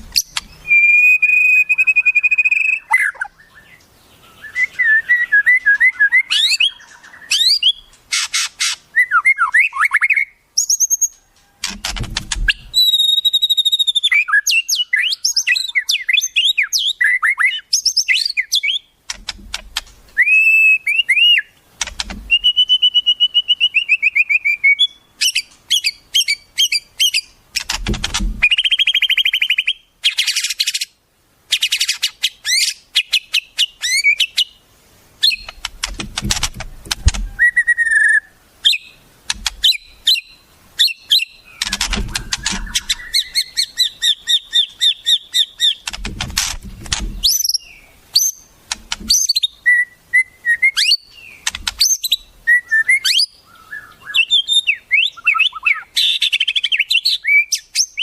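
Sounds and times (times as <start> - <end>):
harsh bird calls: 0.0 - 34.6, 35.2 - 58.0
songbirds calling and singing: 0.0 - 58.0.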